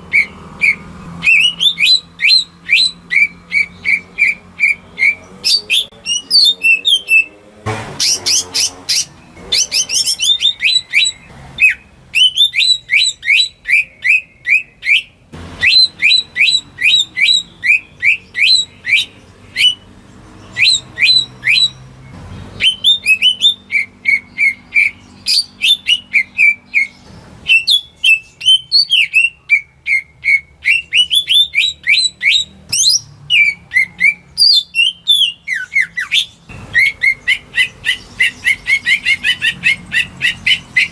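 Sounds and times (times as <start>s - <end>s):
bird singing whistled chirping song: 0.1s - 7.4s, 8.0s - 19.9s, 20.5s - 21.8s, 22.5s - 40.9s.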